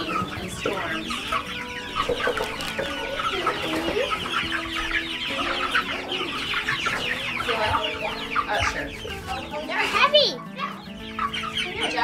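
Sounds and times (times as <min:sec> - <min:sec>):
chicks peeping and cheeping: 0:00.0 - 0:12.0.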